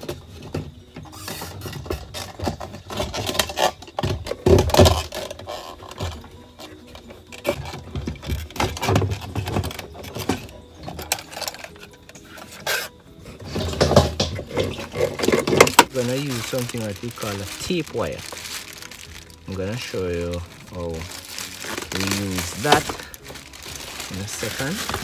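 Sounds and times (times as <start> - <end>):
plastic scraping against metal ring: 1.1 - 25.0.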